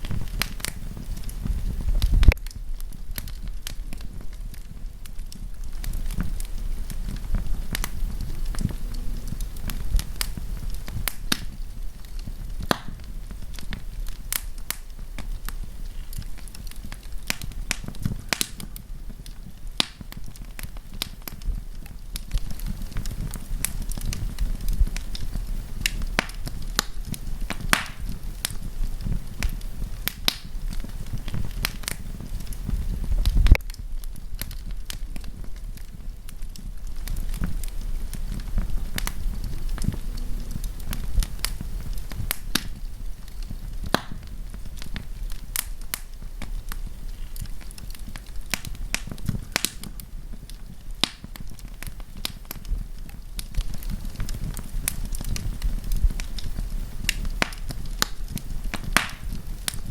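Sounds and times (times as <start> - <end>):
campfire pops and snaps: 0.0 - 59.9
low fire rumble: 0.0 - 59.9.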